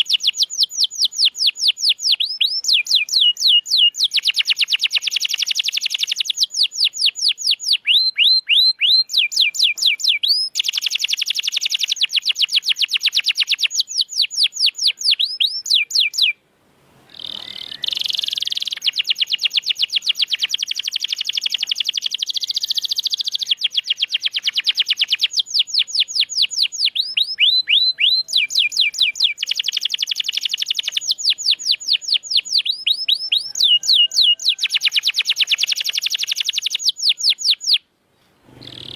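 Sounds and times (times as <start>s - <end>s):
canary singing: 0.0s - 16.4s, 17.1s - 37.9s, 38.5s - 38.9s.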